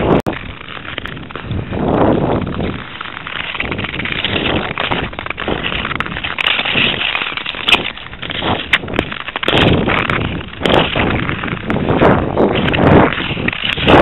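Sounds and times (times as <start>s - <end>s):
ice skates scraping ice: 0.0s - 14.0s.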